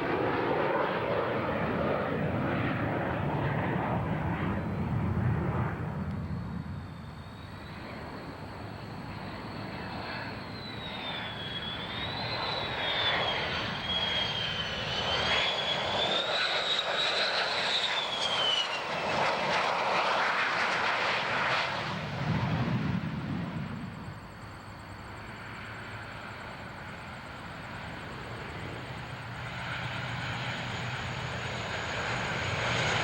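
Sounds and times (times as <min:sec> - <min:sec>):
aircraft engine noise: 0:00.0 - 0:33.0.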